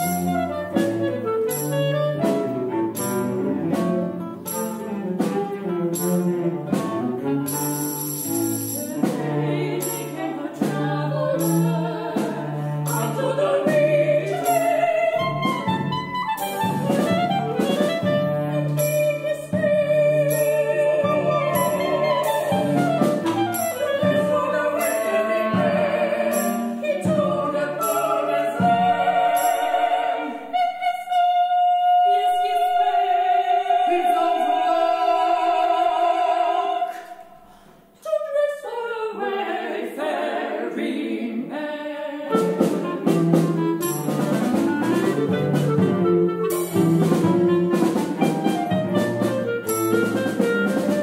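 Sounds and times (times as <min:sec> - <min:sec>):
opera singing with small ensemble: 0:00.0 - 0:51.0.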